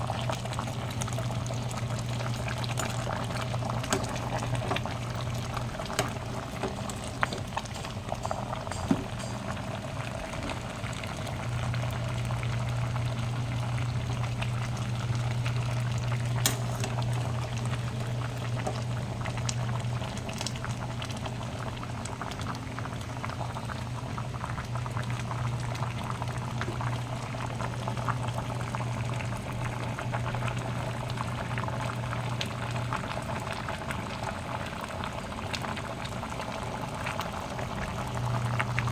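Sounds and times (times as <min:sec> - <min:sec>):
low steady hum: 0:00.0 - 0:33.5
stew bubbling at a boil: 0:00.0 - 0:38.9.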